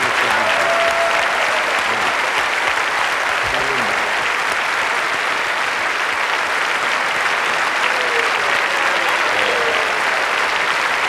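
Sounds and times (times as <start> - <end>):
large audience applauding: 0.0 - 11.0.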